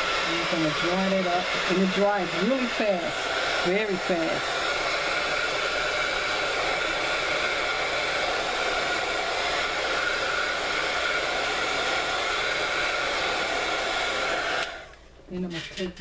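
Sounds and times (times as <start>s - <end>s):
heat gun blowing air: 0.0s - 15.0s.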